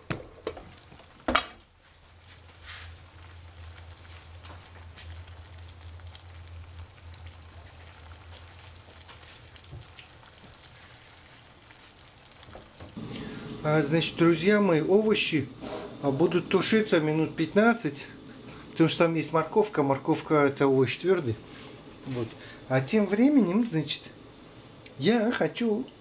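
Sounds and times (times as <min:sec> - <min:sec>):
low steady hum: 0:00.0 - 0:26.0
vegetables sizzling in frying pan: 0:00.3 - 0:26.0.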